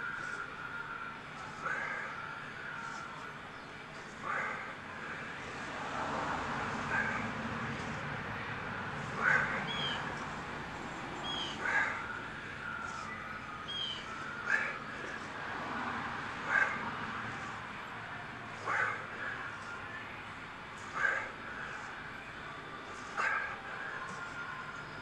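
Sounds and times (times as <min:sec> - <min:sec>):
bird calling: 0:00.0 - 0:25.0
higher bird chirps: 0:00.0 - 0:25.0.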